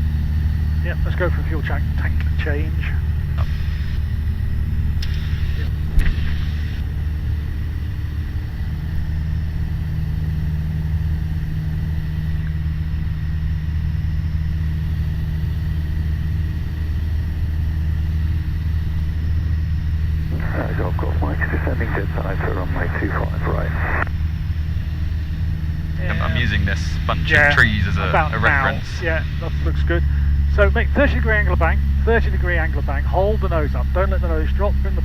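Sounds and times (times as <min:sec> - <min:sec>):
aircraft engine drone in cabin: 0:00.0 - 0:35.0.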